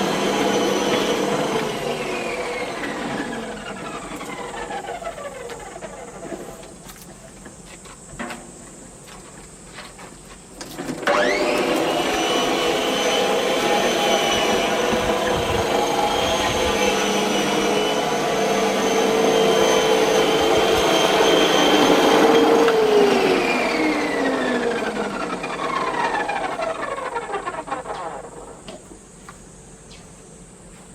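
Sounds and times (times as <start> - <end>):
electric lawn mower whining: 0.0 - 7.5, 10.6 - 29.5.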